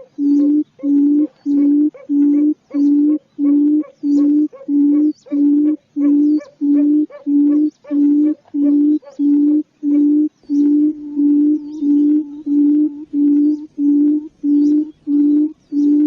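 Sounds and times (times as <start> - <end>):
bird hooting call: 0.0 - 16.0
faint high chirps: 0.0 - 16.0.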